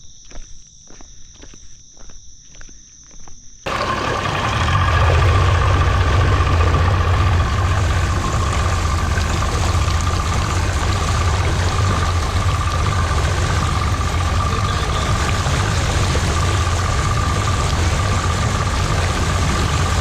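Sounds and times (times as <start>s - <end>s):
outboard motor running: 3.7s - 20.0s.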